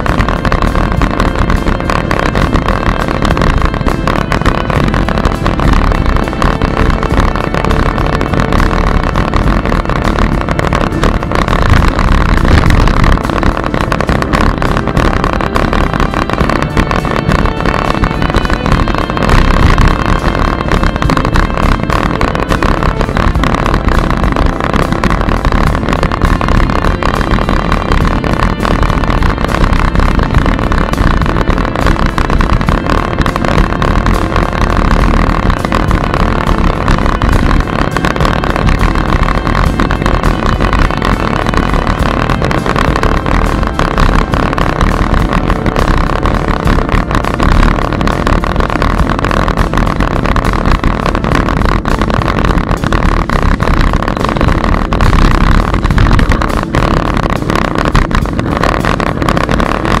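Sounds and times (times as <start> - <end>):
steady hum: 0.0 - 60.0
tyres rumbling on pavement: 0.0 - 60.0
wind buffeting: 0.0 - 60.0.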